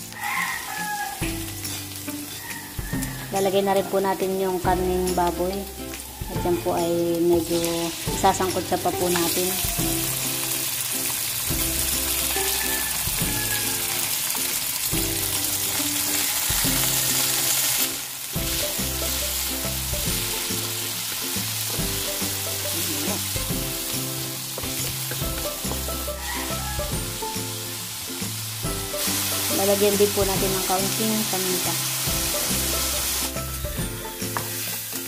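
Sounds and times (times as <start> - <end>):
background music with low notes: 0.0 - 35.0
meat sizzling in a wok: 0.0 - 35.0.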